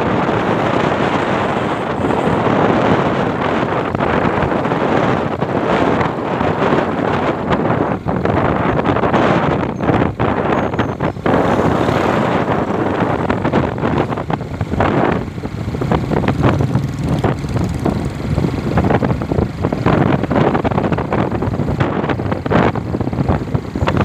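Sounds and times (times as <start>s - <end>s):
motorcycle travel noise: 0.0s - 24.0s
wind buffeting microphone: 0.0s - 24.0s.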